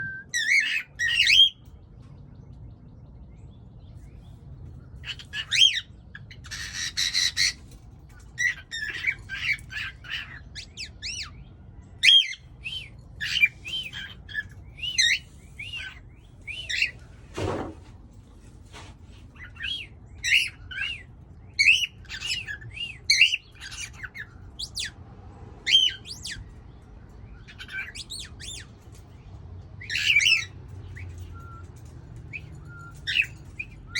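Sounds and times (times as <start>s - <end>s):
birds chirping and squawking: 0.0s - 33.9s.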